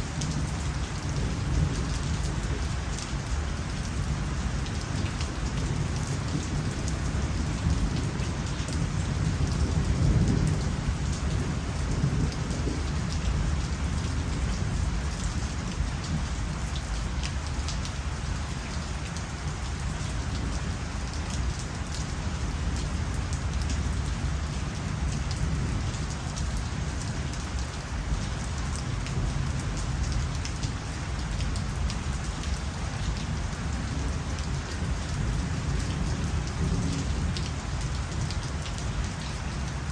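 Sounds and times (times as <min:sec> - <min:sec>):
individual raindrops: 0:00.0 - 0:39.9
steady rain falling: 0:00.0 - 0:39.9.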